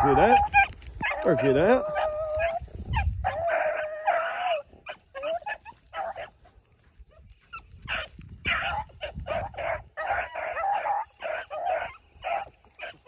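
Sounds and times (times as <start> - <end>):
dogs baying and yelping: 0.0 - 13.0.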